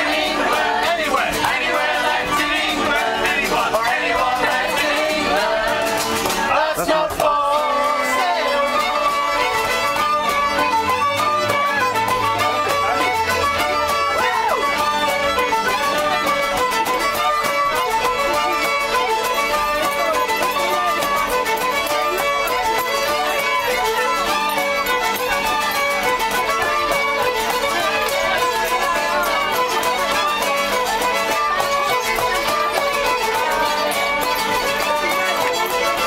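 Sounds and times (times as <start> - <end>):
fiddle playing fast tune: 0.0 - 36.0
rhythmic accompaniment: 0.0 - 36.0.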